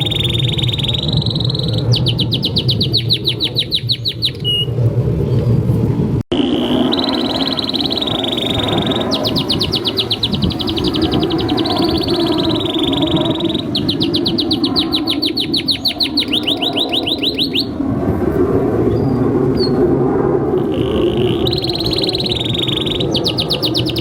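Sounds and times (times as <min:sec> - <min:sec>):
canary singing: 0:00.0 - 0:04.7, 0:06.3 - 0:17.8, 0:20.6 - 0:24.0.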